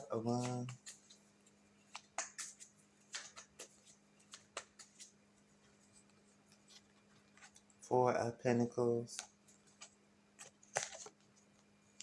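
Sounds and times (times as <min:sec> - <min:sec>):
cards being handled: 0:00.0 - 0:07.7, 0:09.2 - 0:11.7.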